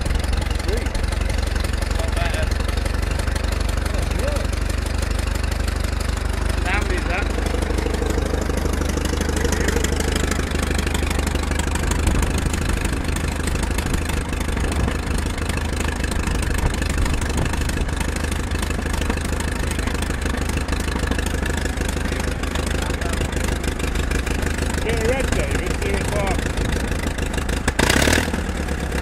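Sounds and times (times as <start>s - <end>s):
aircraft tug engine idling: 0.0s - 29.0s.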